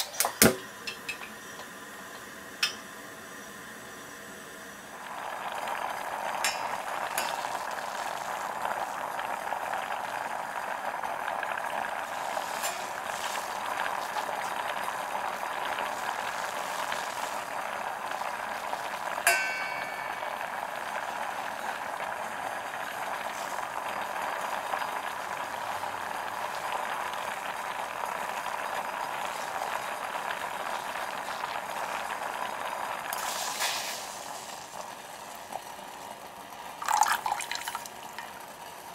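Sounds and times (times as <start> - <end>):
broth boiling and bubbling: 0.0 - 38.9.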